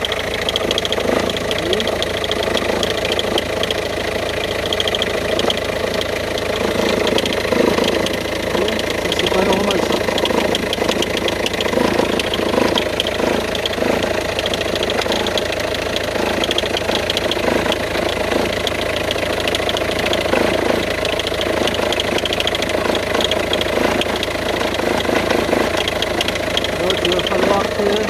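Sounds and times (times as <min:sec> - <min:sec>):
belt ticking rattle: 0:00.0 - 0:28.0
diesel engine idling: 0:00.0 - 0:28.0.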